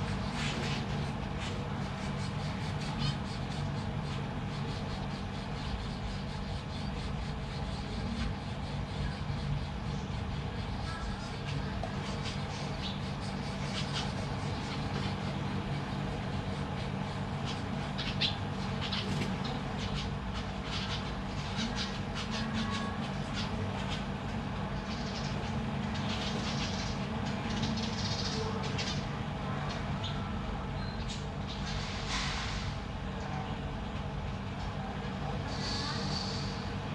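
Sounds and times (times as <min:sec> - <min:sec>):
finches chirping: 0:00.0 - 0:31.8, 0:35.4 - 0:36.9
steady low hum: 0:00.0 - 0:36.9.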